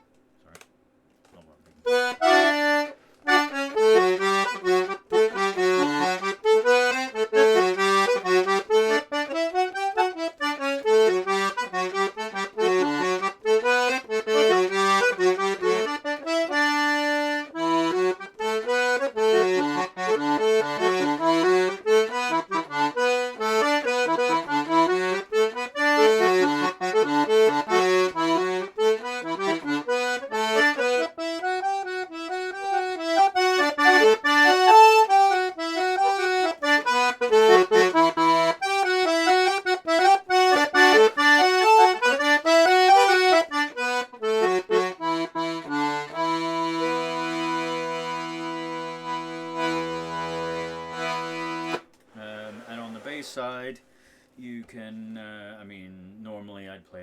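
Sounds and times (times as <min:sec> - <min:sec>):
button accordion playing tune: 0:01.8 - 0:53.1.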